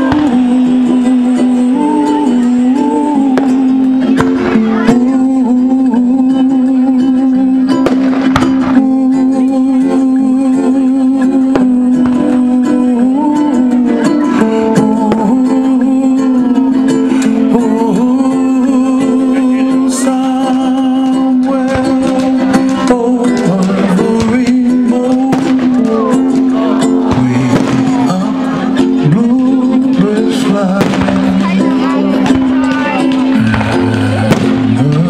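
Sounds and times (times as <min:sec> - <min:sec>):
background music: 0:00.0 - 0:35.0.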